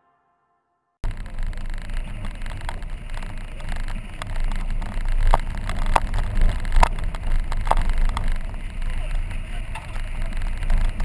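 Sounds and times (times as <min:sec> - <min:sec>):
car rumbling on dirt road: 0:01.0 - 0:11.0.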